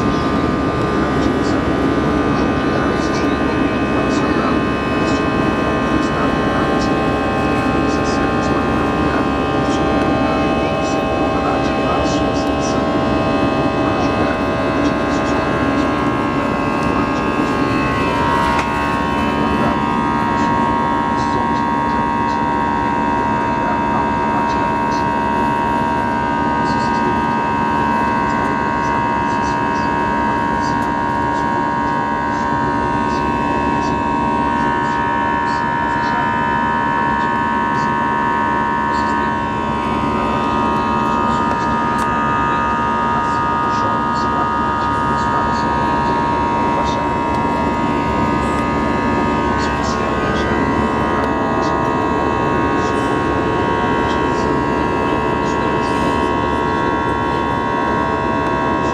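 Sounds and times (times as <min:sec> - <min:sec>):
high whine: 0:00.0 - 0:58.9
jet engines droning: 0:00.0 - 0:58.9.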